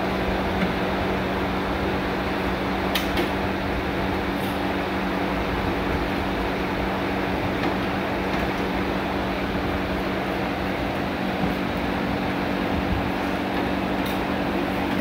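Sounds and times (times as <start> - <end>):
machine hum with rushing air: 0.0 - 15.0.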